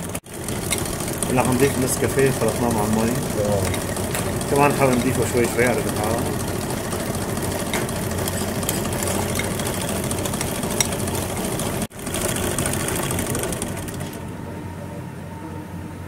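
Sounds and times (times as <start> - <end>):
stand mixer motor running: 0.0 - 14.4.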